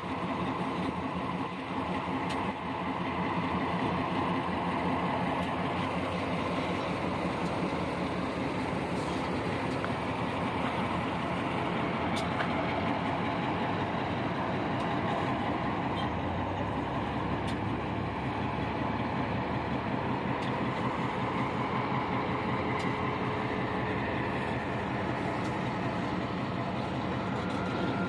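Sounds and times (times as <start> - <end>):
diesel locomotive engine rumbling: 0.0 - 28.0
train cars rolling on track: 0.0 - 28.0.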